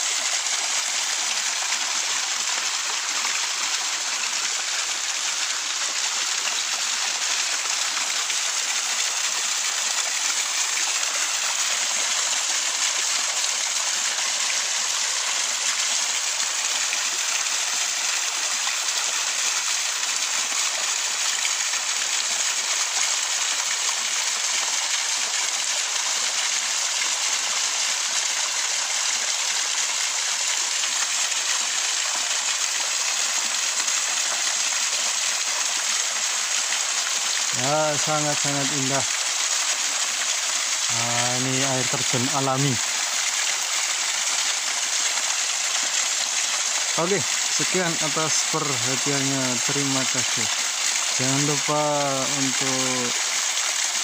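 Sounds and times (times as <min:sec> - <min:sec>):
waterfall splashing over rocks: 0:00.0 - 0:54.0.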